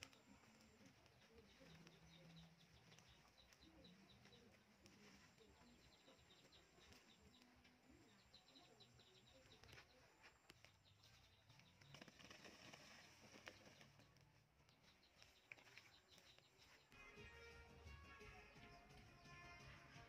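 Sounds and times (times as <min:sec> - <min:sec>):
distant bird chirping: 0:00.0 - 0:20.0.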